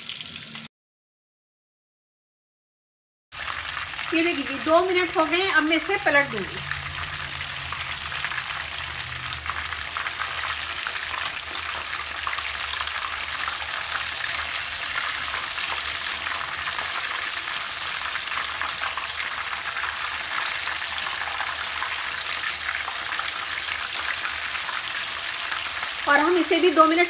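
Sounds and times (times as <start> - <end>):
chicken frying in hot oil: 0.0 - 0.7, 3.4 - 27.0.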